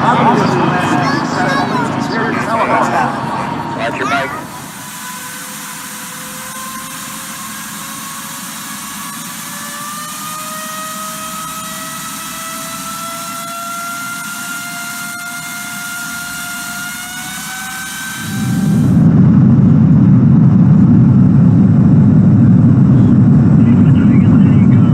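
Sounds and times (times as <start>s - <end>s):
jet engine roar and whine: 0.0s - 24.9s.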